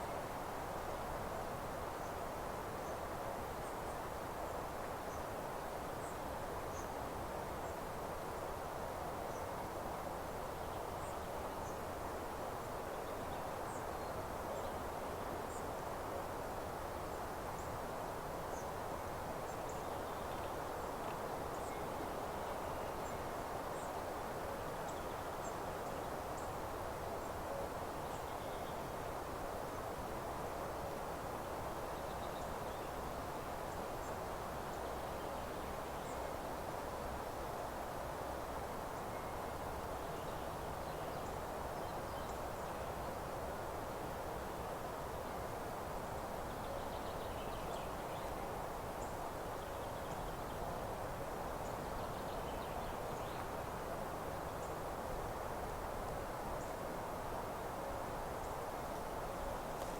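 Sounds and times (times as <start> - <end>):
steady rushing background hiss: 0.0 - 59.9.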